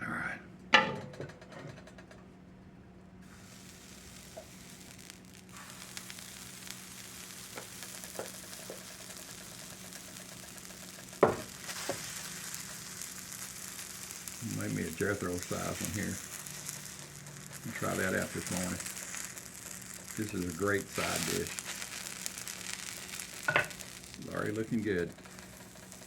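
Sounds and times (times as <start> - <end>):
pancakes sizzling in a pan: 3.2 - 26.0.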